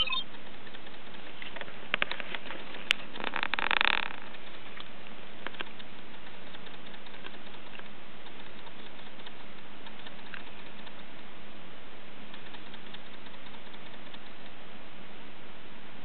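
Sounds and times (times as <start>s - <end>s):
faint low hum: 0.0s - 16.0s
light clicks: 0.2s - 11.3s, 12.3s - 14.6s.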